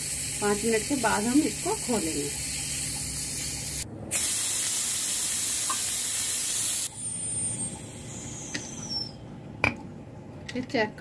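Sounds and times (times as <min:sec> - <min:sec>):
steam hissing from pressure cooker: 0:00.0 - 0:09.0.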